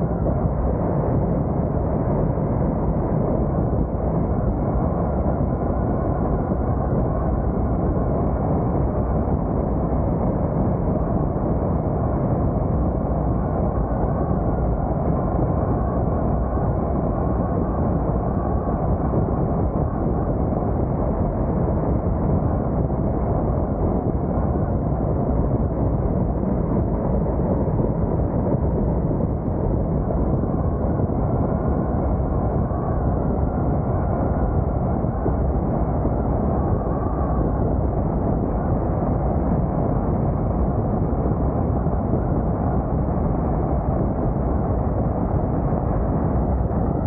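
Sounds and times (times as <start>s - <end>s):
muffled wind and road noise: 0.0s - 47.0s.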